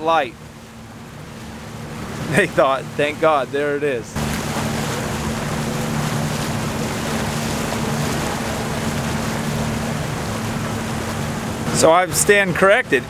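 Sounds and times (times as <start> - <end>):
motorboat engine hum: 0.0 - 13.0
rush of wind and water: 0.0 - 13.0.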